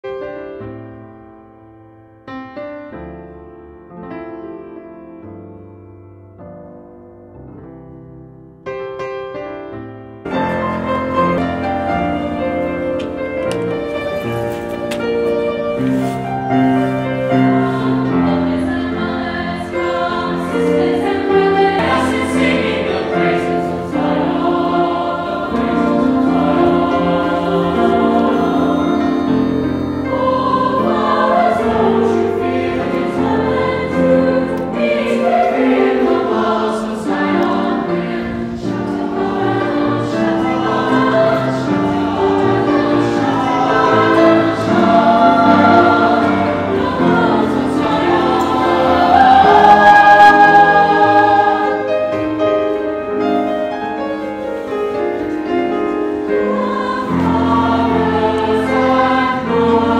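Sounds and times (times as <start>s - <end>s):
grand piano: 0.0s - 59.9s
choir singing in harmony: 10.2s - 59.9s.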